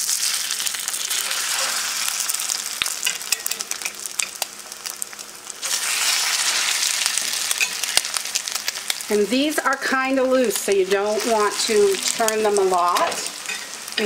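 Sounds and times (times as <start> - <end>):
oil sizzling in skillet: 0.0 - 14.0.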